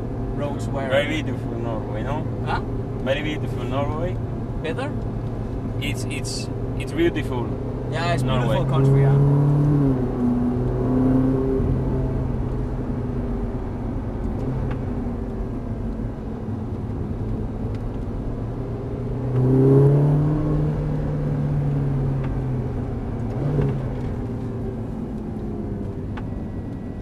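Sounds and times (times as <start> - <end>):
car engine from inside cabin: 0.0 - 27.0
tyre and road noise: 0.0 - 27.0.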